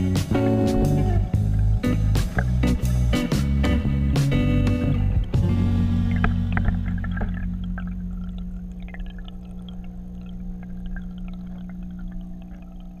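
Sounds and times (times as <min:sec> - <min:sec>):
underwater low hum: 0:00.0 - 0:13.0
water noise: 0:00.0 - 0:13.0.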